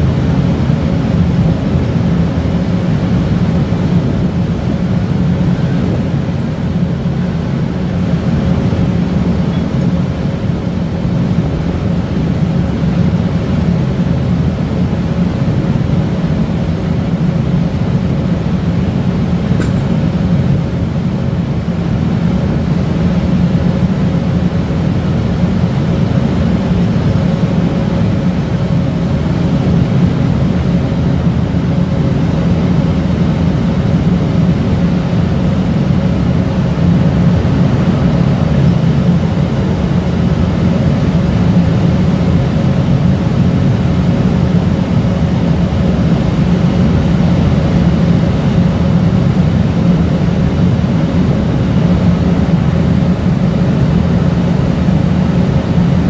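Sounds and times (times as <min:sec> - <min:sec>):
faint steady hum: 0:00.0 - 0:56.0
ship engines low drone: 0:00.0 - 0:56.0.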